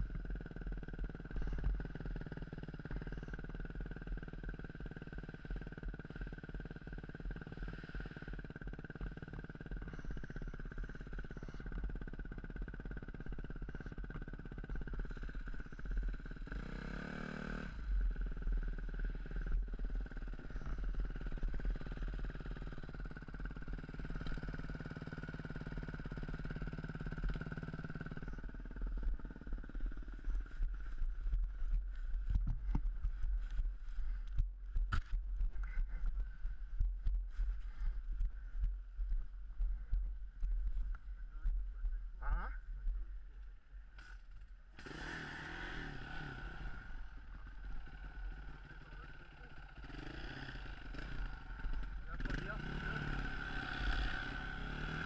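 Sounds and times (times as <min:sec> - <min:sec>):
engine knocks and rattles: 0:00.0 - 0:44.9
motorcycle engine running: 0:00.0 - 0:55.0.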